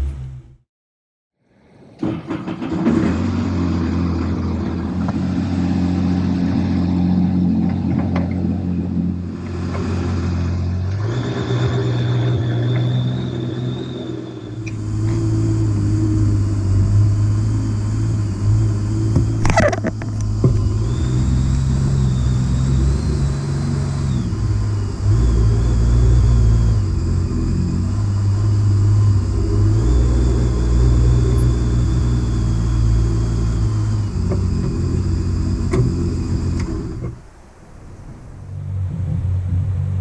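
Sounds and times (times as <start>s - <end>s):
outboard motor droning: 1.6s - 40.0s.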